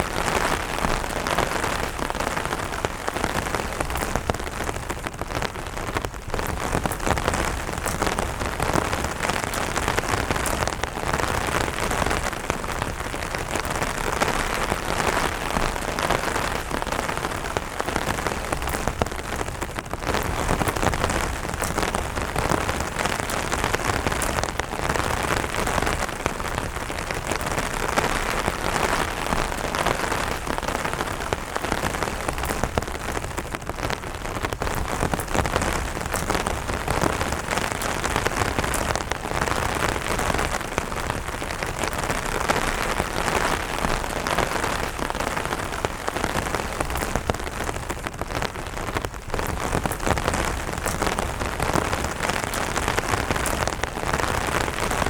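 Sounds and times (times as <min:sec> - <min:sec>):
rain pattering on an umbrella: 0:00.0 - 0:55.0.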